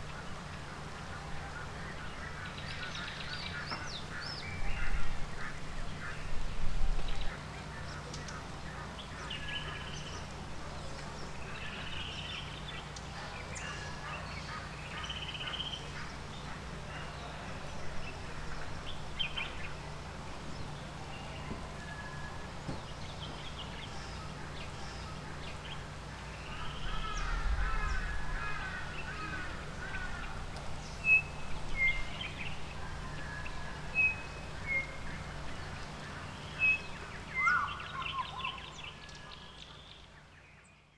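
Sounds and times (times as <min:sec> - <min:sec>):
birds chirping and chattering: 0:00.0 - 0:40.9
steady low hum: 0:00.0 - 0:40.9
warbling bird calls: 0:00.0 - 0:40.9.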